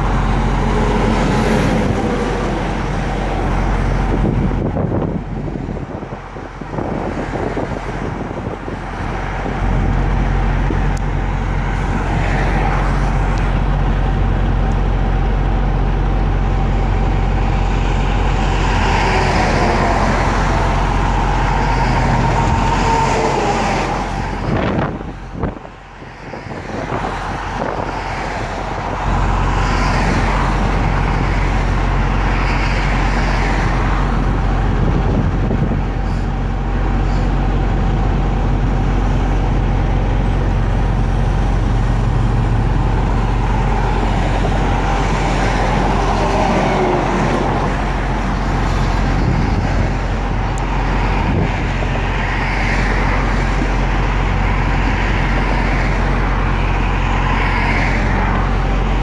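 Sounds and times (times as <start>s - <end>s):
road rumble: 0.0s - 59.0s
trucks and cars passing: 0.0s - 59.0s.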